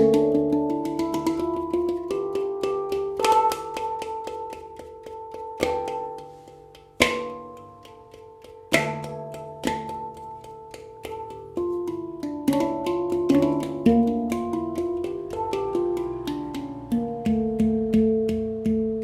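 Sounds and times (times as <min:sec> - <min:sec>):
handpan played by hand: 0:00.0 - 0:19.0.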